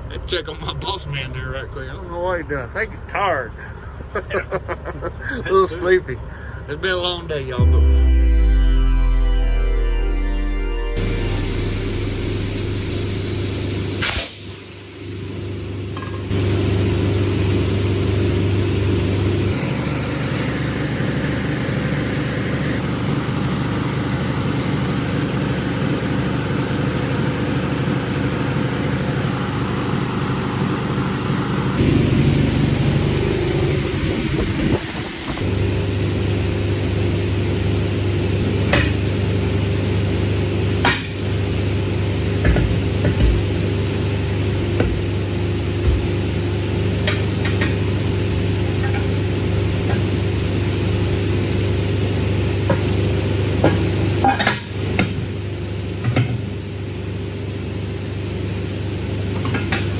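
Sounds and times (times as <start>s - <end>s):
heavy truck engine running: 7.5s - 59.9s.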